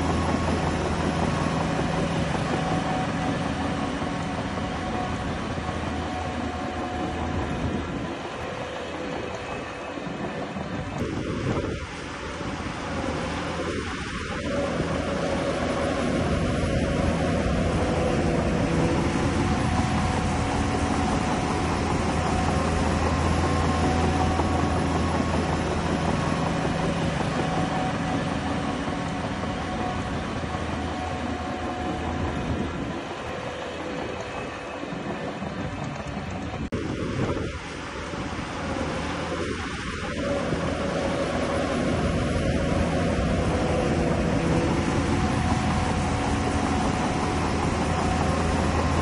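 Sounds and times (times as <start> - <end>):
heavy diesel machinery running: 0.0 - 49.0.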